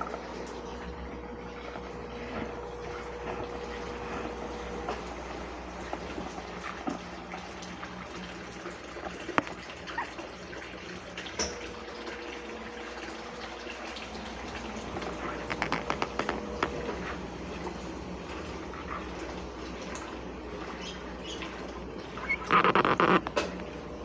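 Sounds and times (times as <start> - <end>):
washing machine low hum: 0.0 - 24.0
water moving in washing machine: 0.0 - 24.0.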